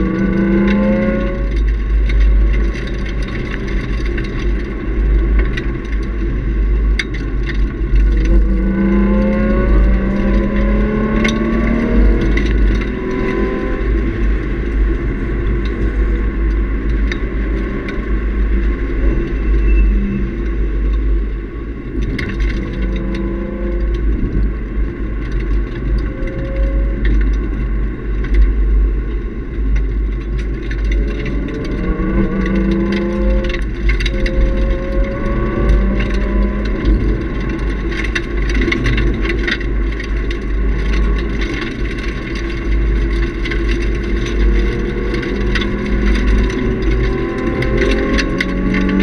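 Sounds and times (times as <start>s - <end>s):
car engine revving: 0.0s - 29.4s, 30.2s - 49.0s
road and wind noise: 0.0s - 49.0s.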